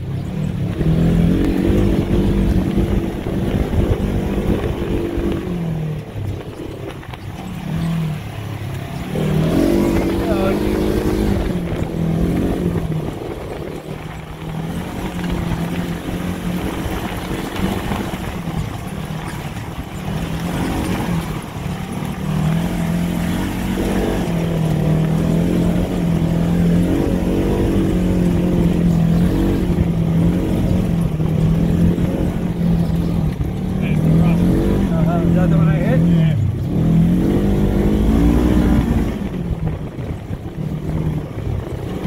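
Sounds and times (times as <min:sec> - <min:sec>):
off-road vehicle engine: 0:00.0 - 0:42.0
rough rumble over rocky ground: 0:00.0 - 0:42.0.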